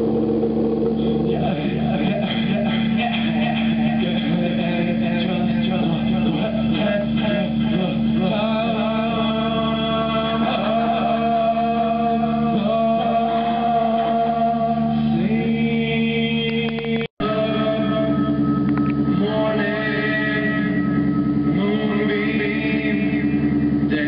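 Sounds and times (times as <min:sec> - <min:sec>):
long held vocal notes: 0:00.0 - 0:24.0
steady musical drone: 0:00.0 - 0:24.0.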